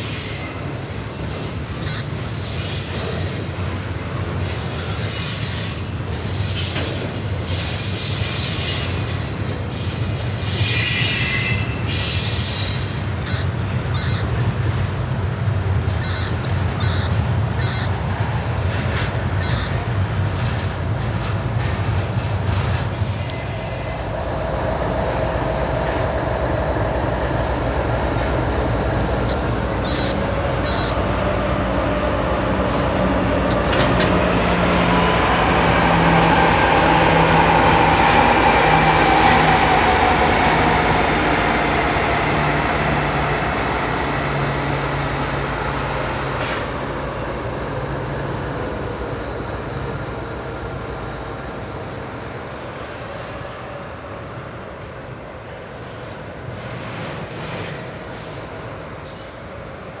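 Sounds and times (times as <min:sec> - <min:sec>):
train passing: 0:00.0 - 1:00.0.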